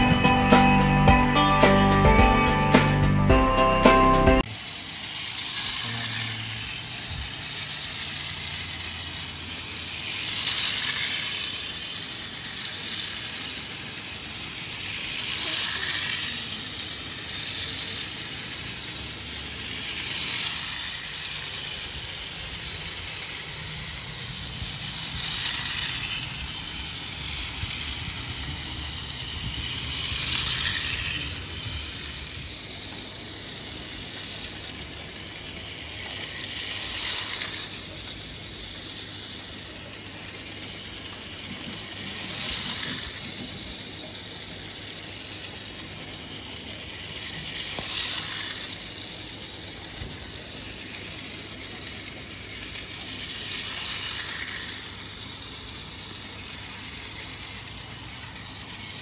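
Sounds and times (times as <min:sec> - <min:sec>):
toy train motor whirring: 0:00.0 - 0:59.0
wheels clattering on rails: 0:04.0 - 0:59.0.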